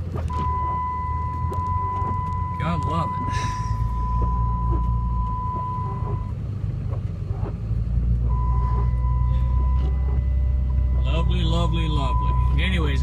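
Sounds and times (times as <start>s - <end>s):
car driving rumble inside cabin: 0.0s - 13.0s.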